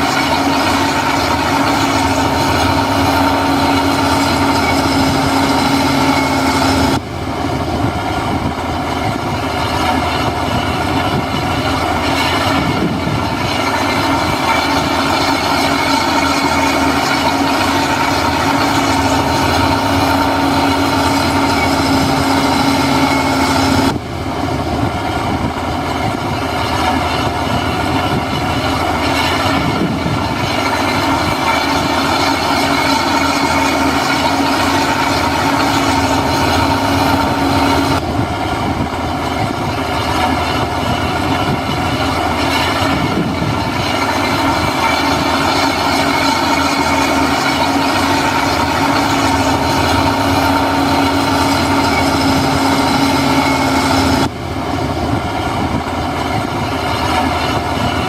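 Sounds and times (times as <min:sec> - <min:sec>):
diesel engine running hard: 0:00.0 - 0:58.0
steady whine: 0:00.0 - 0:58.0.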